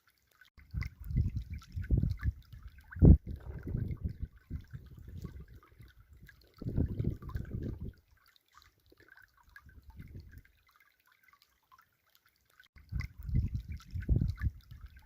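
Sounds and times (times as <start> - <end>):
water trickling over stones: 0.0 - 15.0.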